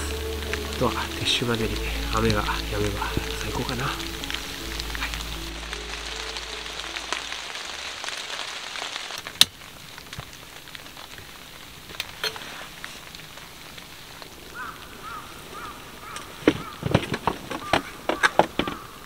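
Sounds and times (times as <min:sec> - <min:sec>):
rain patter: 0:00.0 - 0:19.0.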